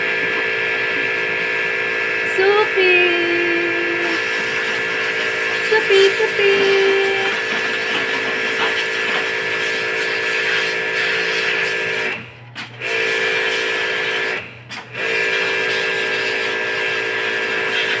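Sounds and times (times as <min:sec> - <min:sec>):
small electric motor humming: 0:00.0 - 0:18.0.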